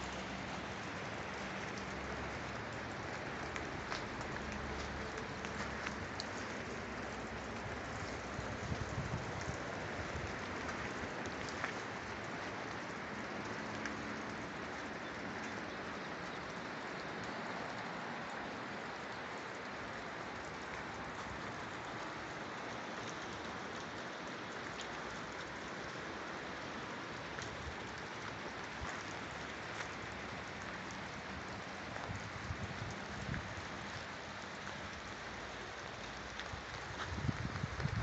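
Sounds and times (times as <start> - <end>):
steady hiss with faint ticks: 0.0 - 38.0.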